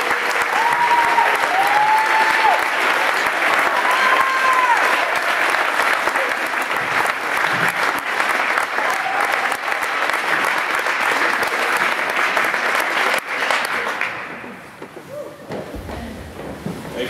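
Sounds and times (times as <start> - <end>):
crowd applauding: 0.0 - 14.8.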